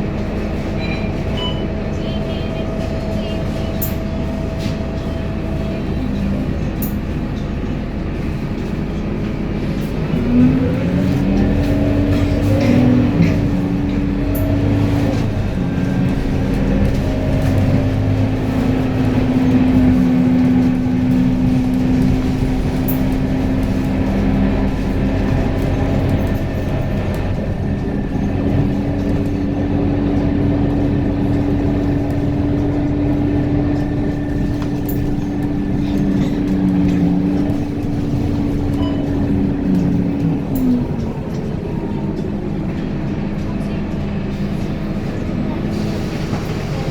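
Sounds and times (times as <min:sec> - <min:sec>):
vehicle rumbling steadily: 0:00.0 - 0:46.9.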